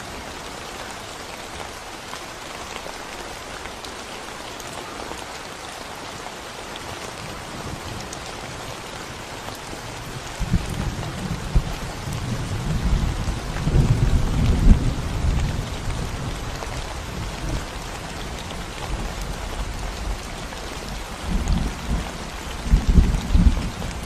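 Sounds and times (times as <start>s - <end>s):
rain on concrete road: 0.0s - 24.0s.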